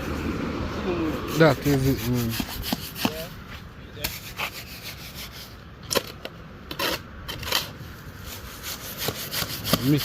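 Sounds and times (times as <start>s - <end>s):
tool scraping wet mortar: 1.2s - 3.3s, 4.0s - 10.0s.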